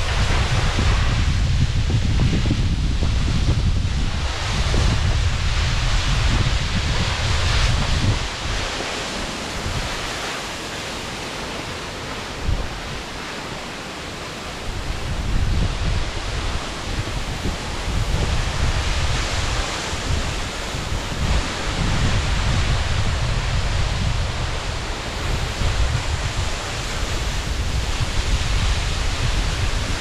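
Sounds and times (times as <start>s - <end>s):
wind buffeting microphone: 0.0s - 13.7s, 14.5s - 30.0s
waterfall roaring: 0.0s - 30.0s.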